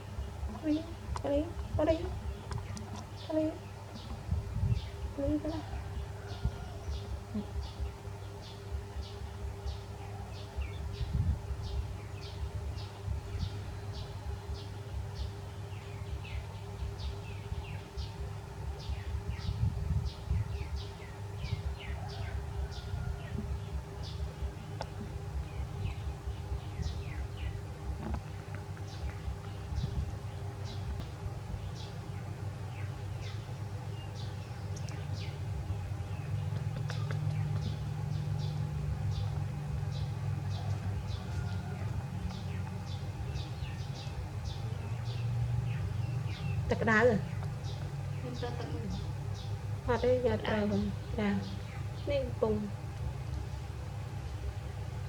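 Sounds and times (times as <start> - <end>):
bird chirping: 0.0 - 52.8
low hum: 0.0 - 55.0
low rumbling background: 0.0 - 55.0.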